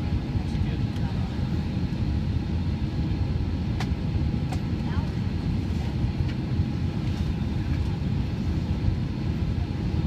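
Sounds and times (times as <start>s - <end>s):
airliner taxiing rumble: 0.0s - 10.0s.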